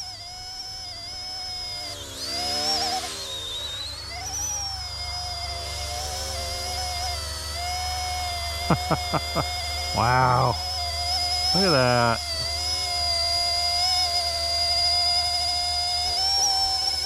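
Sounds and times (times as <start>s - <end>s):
rc helicopter rotors whining: 0.0s - 17.0s.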